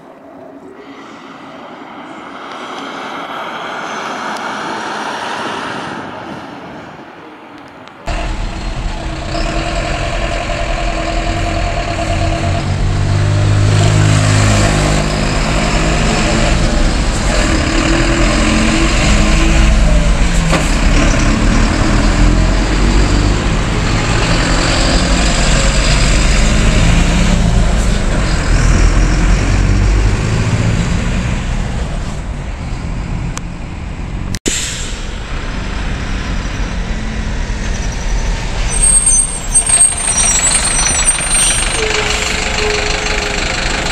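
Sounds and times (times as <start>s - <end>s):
diesel bus engine accelerating: 8.0s - 43.9s.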